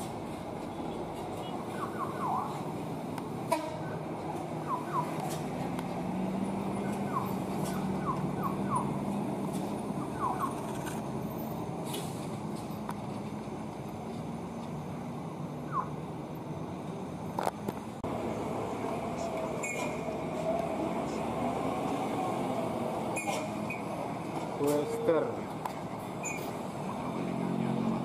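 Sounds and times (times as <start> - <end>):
truck and motorcycle engines: 0.0 - 28.0.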